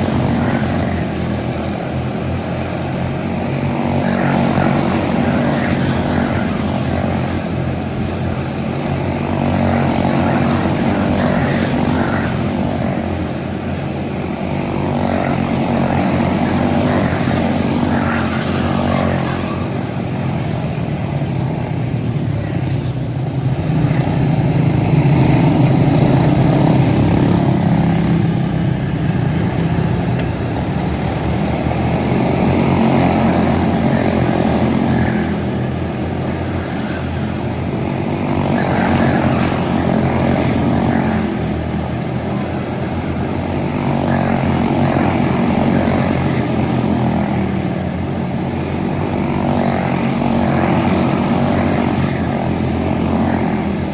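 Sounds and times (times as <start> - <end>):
go-kart engines buzzing: 0.0 - 53.9.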